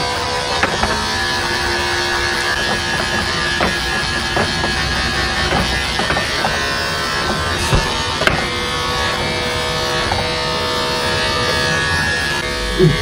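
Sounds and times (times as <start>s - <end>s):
electric clipper buzzing: 0.0s - 13.0s.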